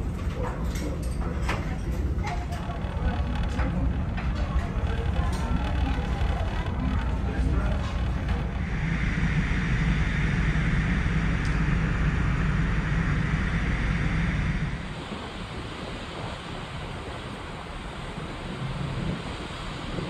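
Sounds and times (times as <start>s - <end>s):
low steady ship hum: 0.0s - 20.0s
sea: 0.0s - 20.0s
wind rushing over microphone: 1.6s - 20.0s.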